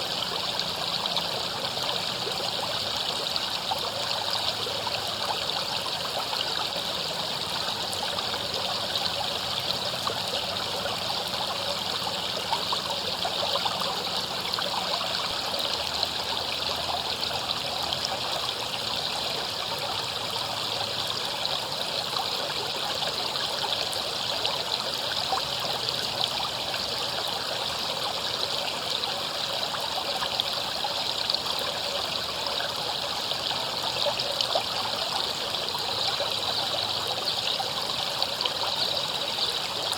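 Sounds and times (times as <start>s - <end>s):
river running over rocks: 0.0s - 39.9s.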